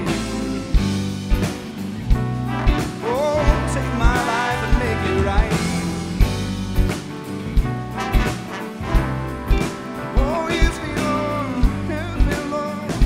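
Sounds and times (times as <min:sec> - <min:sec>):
brass instrument melody: 0:00.0 - 0:13.0
steady drum beat: 0:00.0 - 0:13.0
worship band music: 0:00.0 - 0:13.0.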